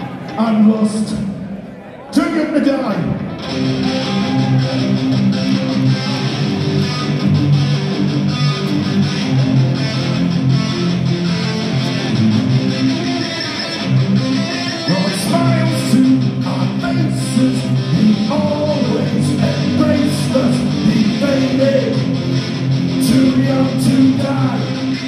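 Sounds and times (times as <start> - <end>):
live punk rock band: 3.0 - 25.0.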